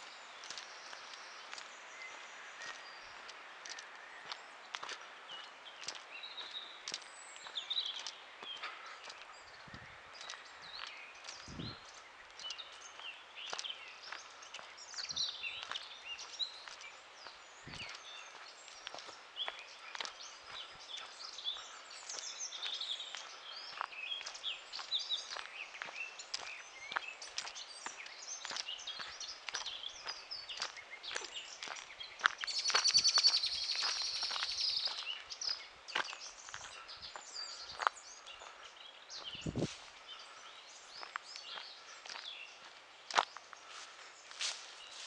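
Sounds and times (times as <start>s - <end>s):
birds singing and chirping: 0.0s - 45.0s
footsteps on forest path: 0.0s - 45.0s.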